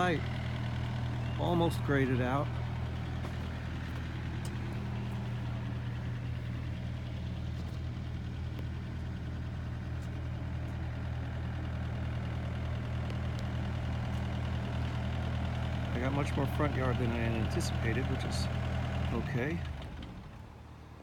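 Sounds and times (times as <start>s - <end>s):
heavy machine engine idling: 0.0s - 21.0s.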